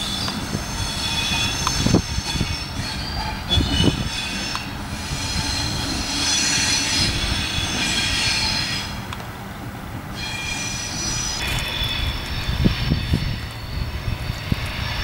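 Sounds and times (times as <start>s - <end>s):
railcar wheels squealing: 0.0s - 9.1s, 10.1s - 15.0s
railcar low rumble: 0.0s - 15.0s.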